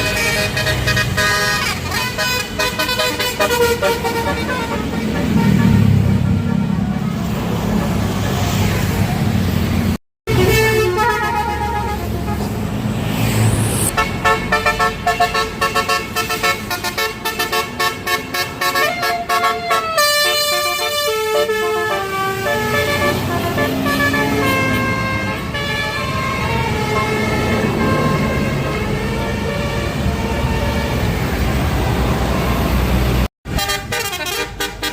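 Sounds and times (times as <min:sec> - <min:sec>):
musical air horn tune: 0:00.0 - 0:07.2, 0:10.3 - 0:31.1, 0:33.5 - 0:34.9
bus rumble: 0:00.0 - 0:34.9
traffic: 0:00.0 - 0:34.9.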